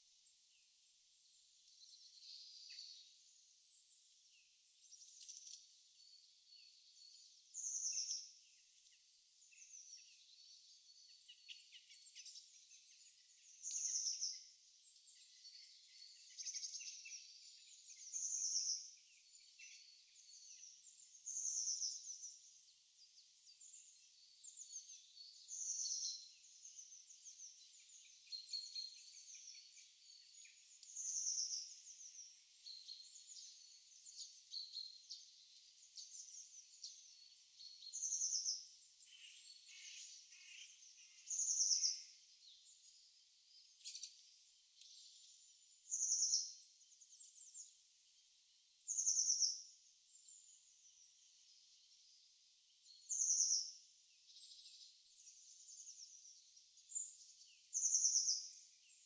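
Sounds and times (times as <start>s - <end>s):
birds chirping: 0.0s - 59.0s
songbird song phrase: 0.0s - 59.0s.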